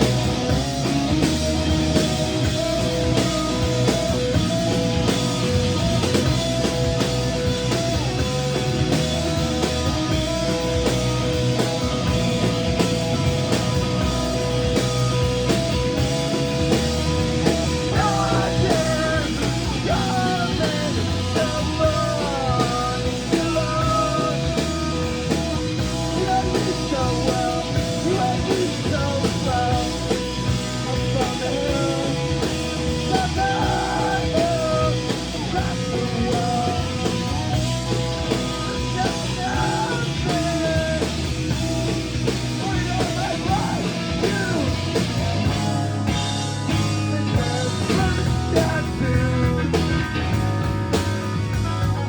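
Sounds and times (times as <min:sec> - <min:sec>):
guitar lead with bending notes: 0:00.0 - 0:52.0
rock band playing live: 0:00.0 - 0:52.0.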